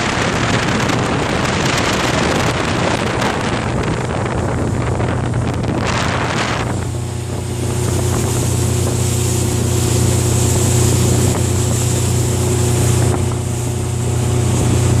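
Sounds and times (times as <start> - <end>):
motorboat engine droning: 0.0 - 15.0
water and wind rushing: 0.0 - 15.0.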